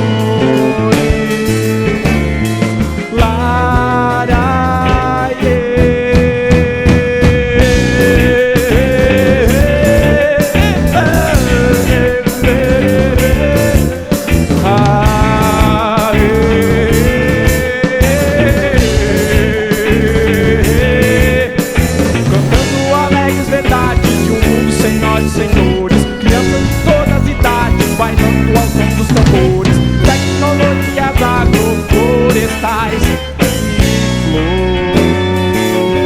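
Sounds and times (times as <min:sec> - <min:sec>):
bass: 0:00.0 - 0:36.0
wavering lead melody: 0:00.0 - 0:36.0
drum beat: 0:00.1 - 0:36.0.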